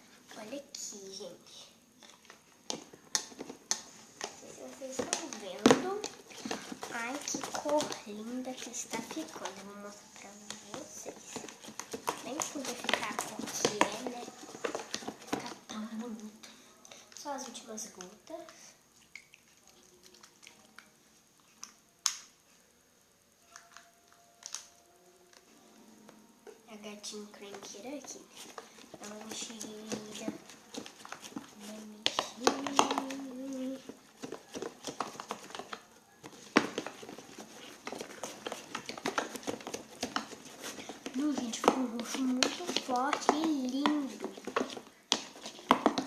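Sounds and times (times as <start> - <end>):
spoon stirring sticky slime: 2.0 - 15.8, 16.9 - 22.3, 26.5 - 46.0.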